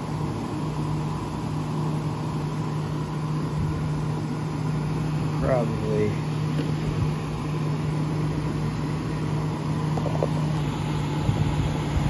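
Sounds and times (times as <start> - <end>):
air conditioner fan rushing: 0.0 - 12.0
air conditioner hum: 0.0 - 12.0.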